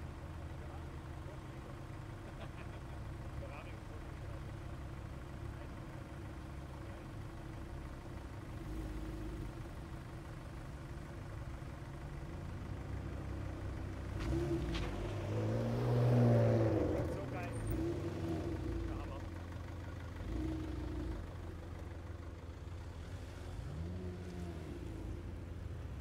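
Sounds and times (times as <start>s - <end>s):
van engine passing slowly: 0.0s - 26.0s.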